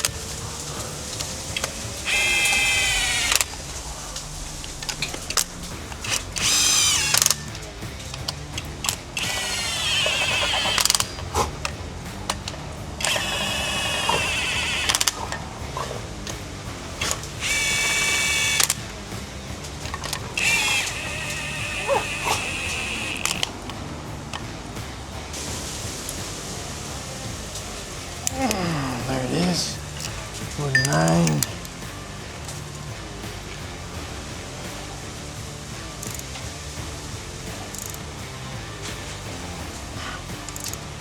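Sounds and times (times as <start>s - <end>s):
ratchet wrench clicking: 0.0s - 28.7s, 34.6s - 41.0s.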